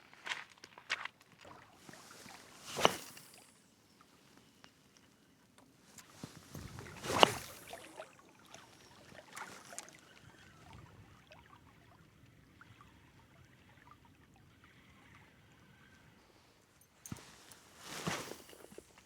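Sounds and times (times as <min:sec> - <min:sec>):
faint water trickling: 0:01.3 - 0:19.0.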